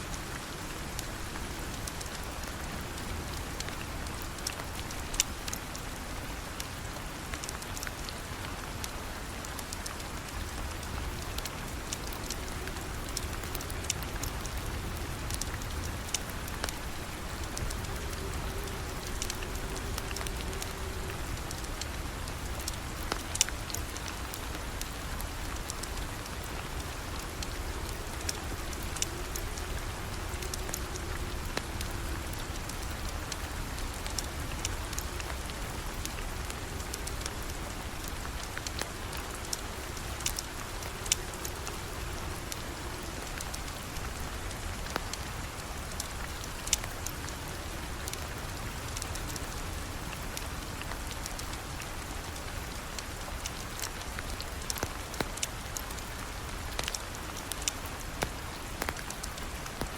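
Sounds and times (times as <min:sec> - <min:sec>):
raindrops ticking: 0:00.0 - 0:59.9
steady rain: 0:00.0 - 0:59.9.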